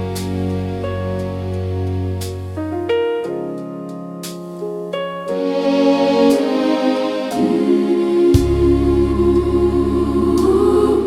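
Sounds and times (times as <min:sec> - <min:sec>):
gospel piano chords: 0:00.0 - 0:11.0.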